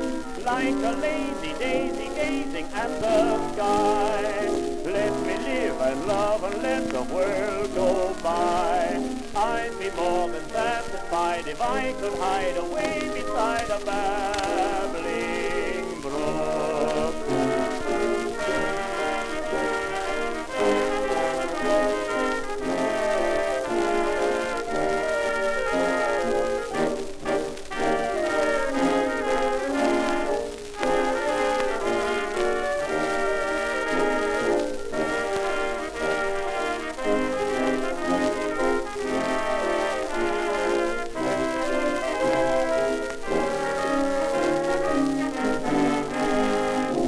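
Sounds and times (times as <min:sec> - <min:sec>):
dance orchestra with brass: 0:00.0 - 0:47.0
record surface hiss: 0:00.0 - 0:47.0.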